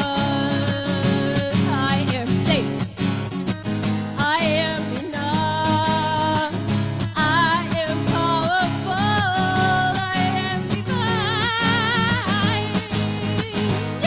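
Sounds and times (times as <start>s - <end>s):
woman singing with vibrato: 0.0s - 3.0s, 4.2s - 14.0s
strummed acoustic guitar: 0.0s - 14.0s.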